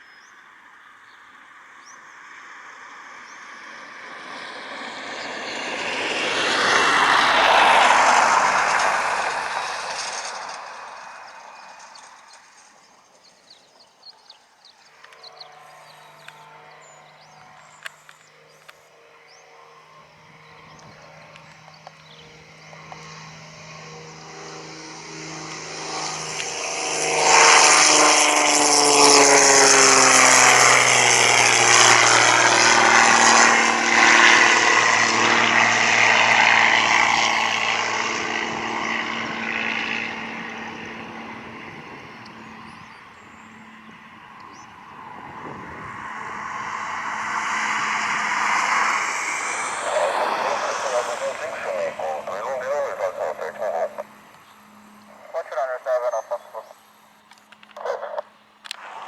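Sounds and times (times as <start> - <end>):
propeller airplane passing: 0.0 - 59.0.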